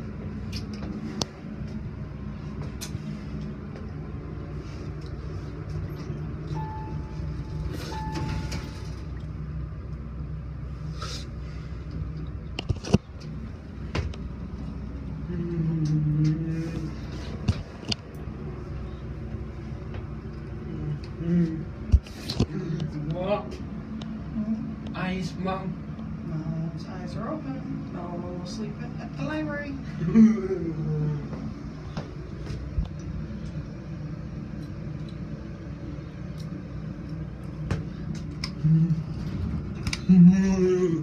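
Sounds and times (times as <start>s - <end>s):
lift car rumbling: 0.0s - 41.0s.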